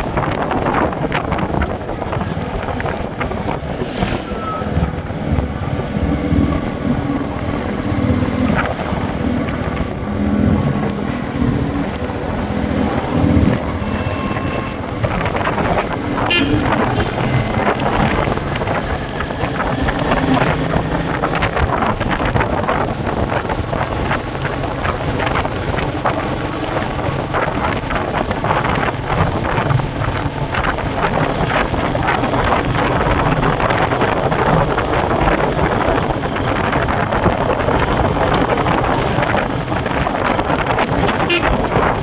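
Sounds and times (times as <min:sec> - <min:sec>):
wind buffeting microphone: 0:00.0 - 0:42.0
motorcycle engine running: 0:04.6 - 0:42.0.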